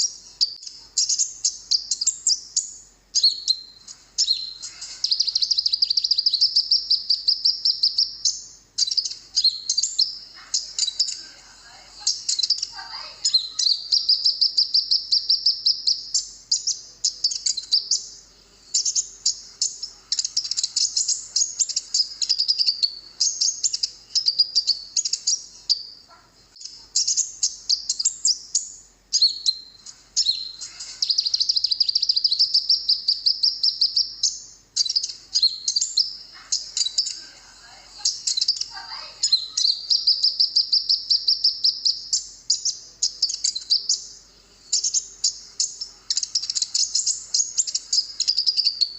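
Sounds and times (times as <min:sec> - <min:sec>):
bird chirping and trilling: 0:00.0 - 0:48.9.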